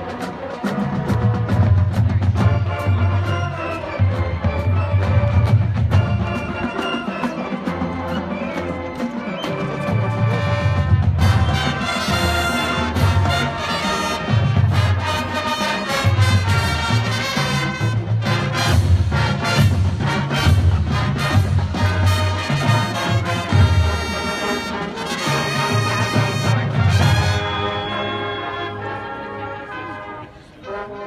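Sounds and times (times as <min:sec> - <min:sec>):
marching band playing: 0:00.0 - 0:31.0.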